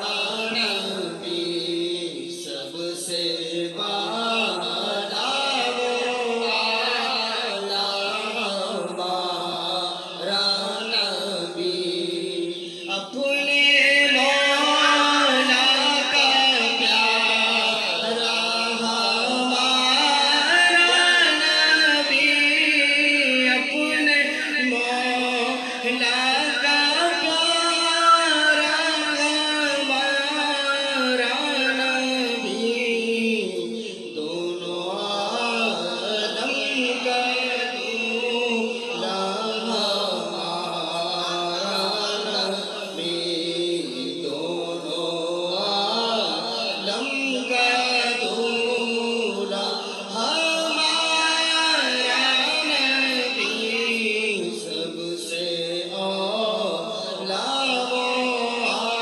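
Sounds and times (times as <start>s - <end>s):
man singing over loudspeakers: 0.0s - 59.0s.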